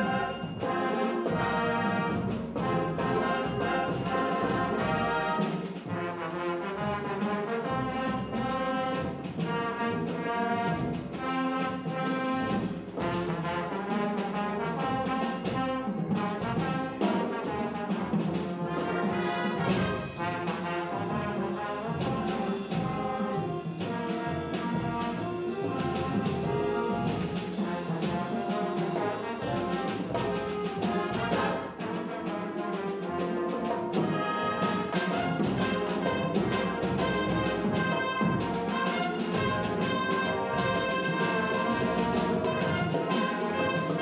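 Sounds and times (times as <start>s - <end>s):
bass drum and percussion: 0.0s - 32.1s, 33.0s - 44.0s
brass section playing: 0.0s - 44.0s.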